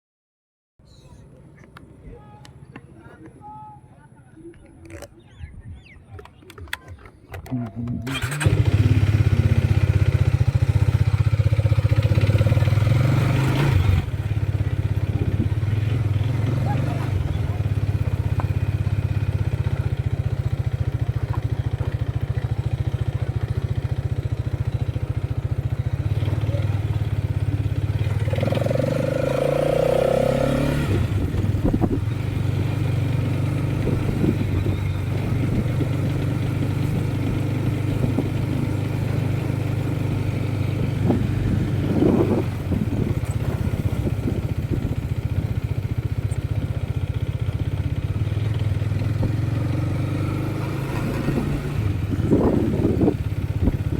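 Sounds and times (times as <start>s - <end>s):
motorcycle engine running: 7.3s - 53.9s.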